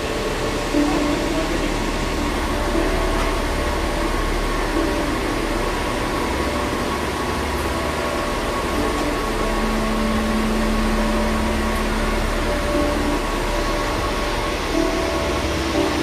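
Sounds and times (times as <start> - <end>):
cooling fans whirring: 0.0 - 16.0
faint steady tones: 0.0 - 16.0
low electrical hum: 0.0 - 16.0.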